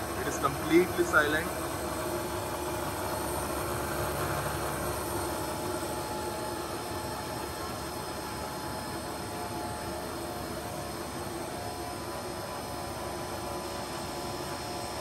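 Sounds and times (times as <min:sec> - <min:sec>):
milling machine spindle whirring: 0:00.0 - 0:15.0.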